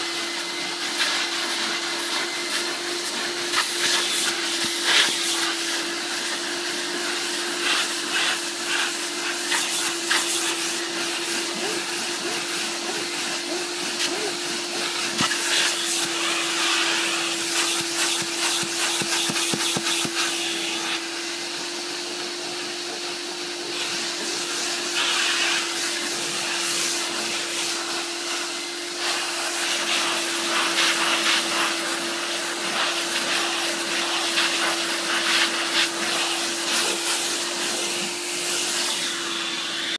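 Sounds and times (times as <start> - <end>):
steam cleaner hissing: 0.0 - 39.9.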